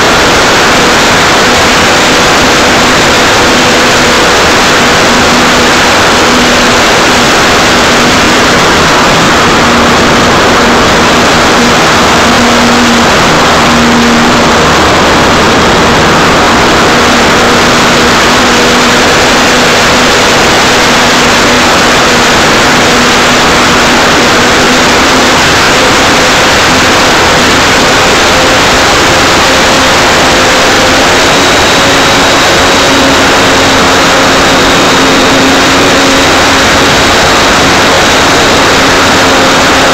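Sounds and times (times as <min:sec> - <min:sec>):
propeller hum: 0:00.0 - 0:39.9
wind rush over microphone: 0:00.0 - 0:39.9.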